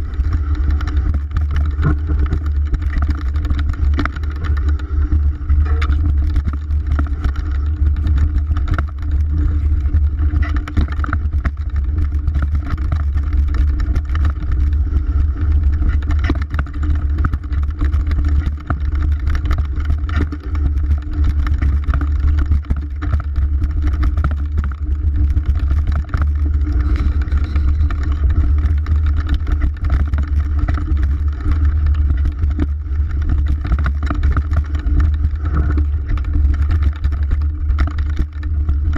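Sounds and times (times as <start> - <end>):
mountain bike rattling: 0.0 - 38.9
wind rumble on microphone: 0.0 - 38.9.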